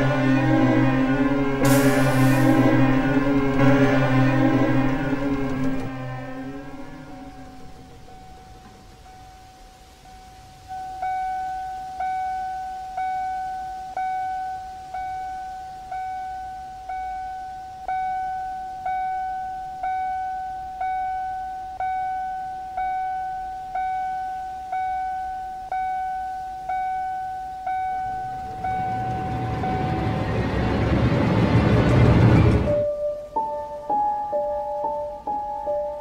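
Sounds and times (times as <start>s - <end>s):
car warning chime dinging: 0.0s - 31.6s.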